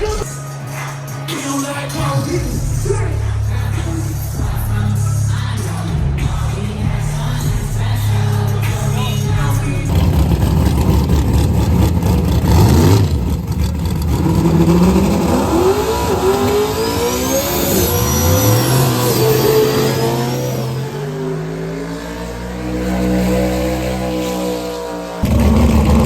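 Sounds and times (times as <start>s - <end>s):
car engine accelerating: 2.4s - 26.0s.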